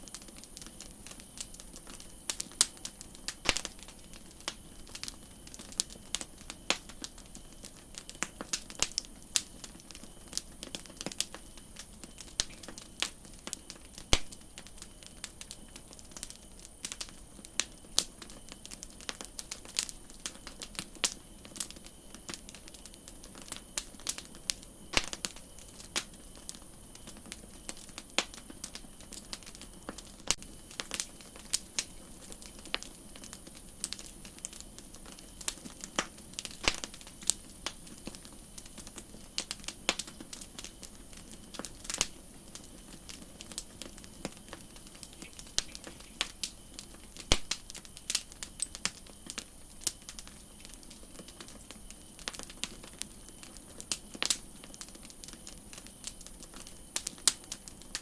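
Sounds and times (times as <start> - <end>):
campfire pops and snaps: 0.0 - 58.0
soft fire hiss: 0.0 - 58.0.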